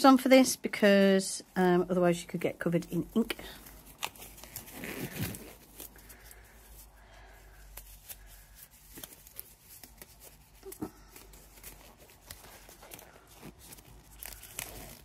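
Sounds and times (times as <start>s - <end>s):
disposable gloves rustling: 0.0s - 15.0s.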